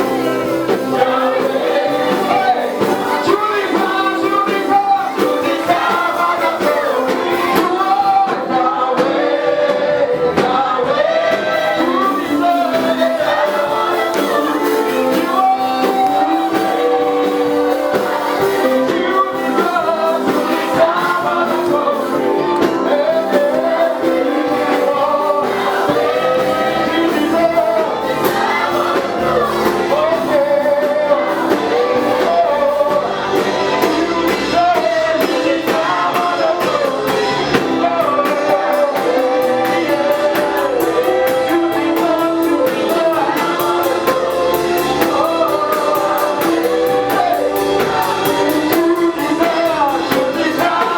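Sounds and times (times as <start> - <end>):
gospel choir singing over a band: 0.0 - 50.9.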